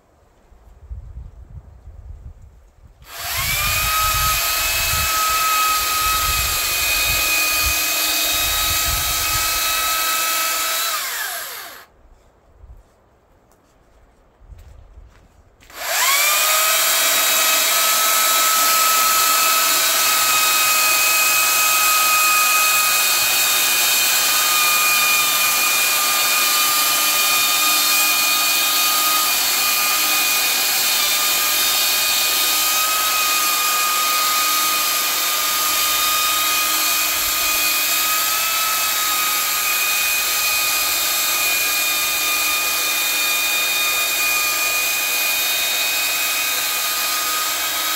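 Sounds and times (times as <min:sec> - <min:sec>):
chainsaw motor whining: 0:03.0 - 0:11.9, 0:15.7 - 0:47.9.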